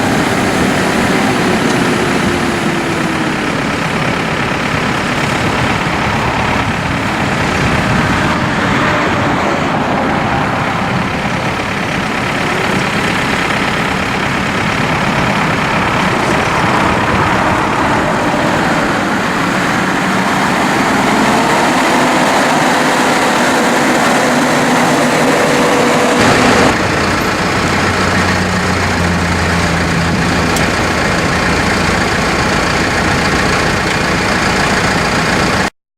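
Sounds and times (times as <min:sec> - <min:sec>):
diesel engine running: 0:00.0 - 0:35.7.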